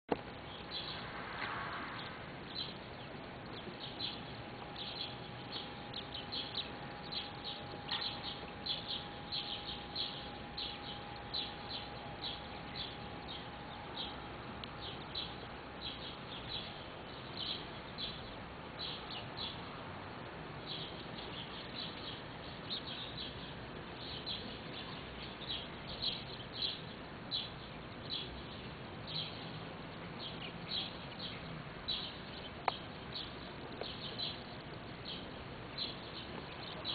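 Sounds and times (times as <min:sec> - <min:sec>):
steady background hiss: 0:00.1 - 0:36.9
bird chirping: 0:00.2 - 0:19.9, 0:20.6 - 0:36.9.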